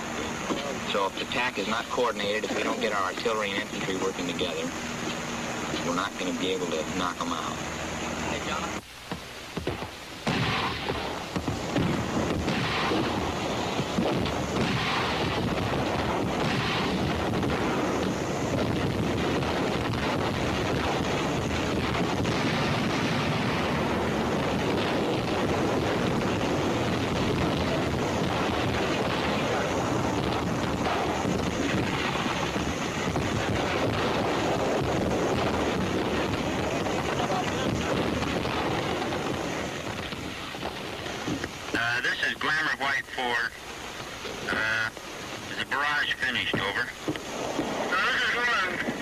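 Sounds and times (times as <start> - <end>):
sharp artillery blasts: 8.2 - 49.0
rumble of shell bursts and gunfire: 8.4 - 49.0.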